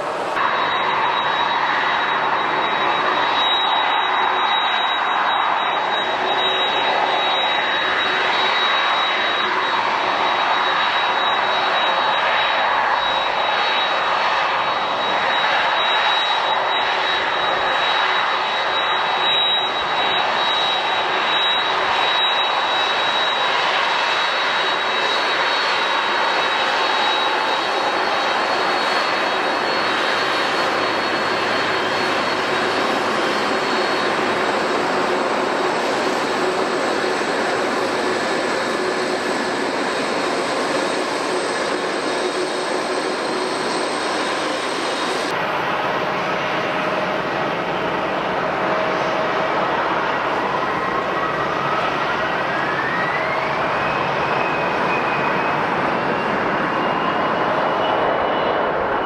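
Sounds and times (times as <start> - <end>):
jet engines roaring steadily: 0.0 - 59.0.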